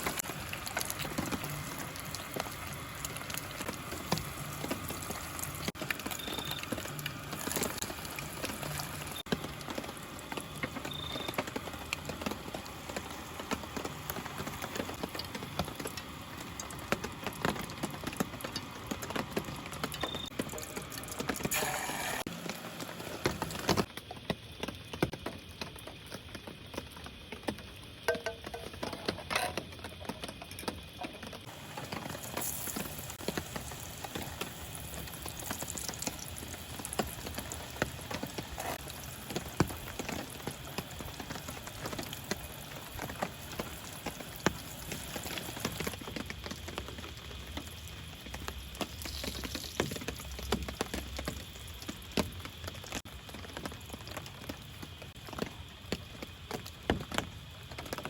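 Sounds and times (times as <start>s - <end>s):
rain falling in forest: 0.0s - 58.0s.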